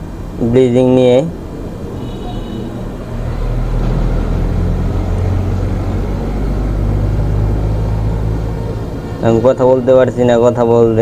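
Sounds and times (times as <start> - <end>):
air conditioner compressor running: 0.0 - 11.0.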